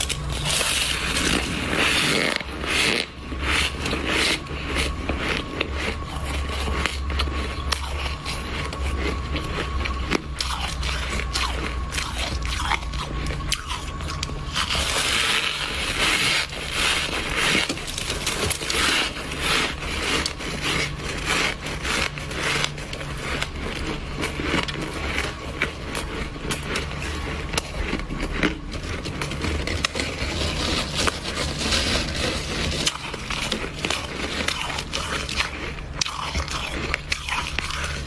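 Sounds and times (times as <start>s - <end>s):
ice crunching while chewed: 0.0s - 38.0s.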